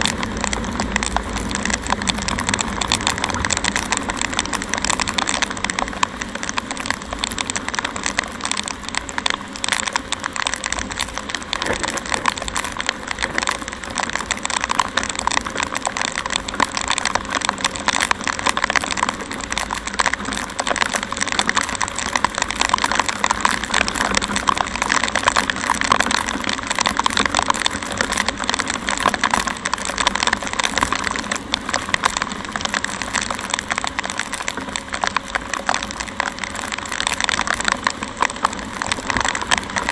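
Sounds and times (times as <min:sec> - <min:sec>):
rain hitting microphone: 0:00.0 - 0:39.9.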